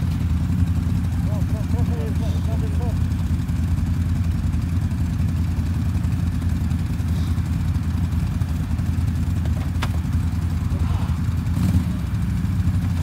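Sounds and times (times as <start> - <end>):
atv engine idling: 0.0 - 13.0.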